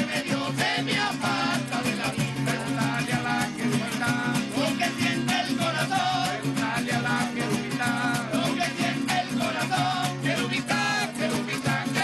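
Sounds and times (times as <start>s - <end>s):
voices singing: 0.0s - 12.0s.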